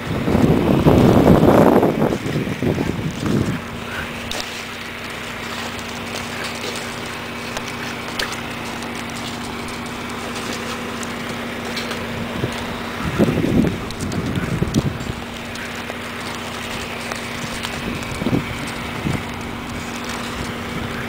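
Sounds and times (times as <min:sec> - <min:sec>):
horse hoofbeats on wood chips: 0:00.0 - 0:21.0
low steady hum: 0:00.0 - 0:21.0
outdoor hiss: 0:00.0 - 0:21.0.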